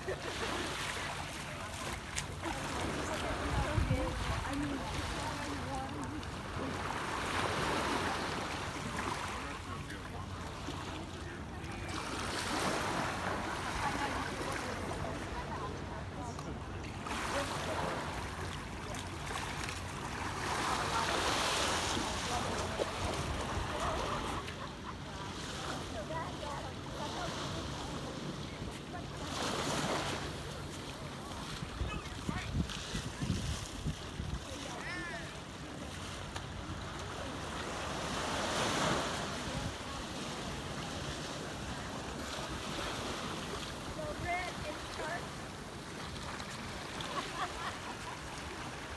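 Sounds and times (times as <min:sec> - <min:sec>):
small waves washing onto beach: 0:00.0 - 0:48.9.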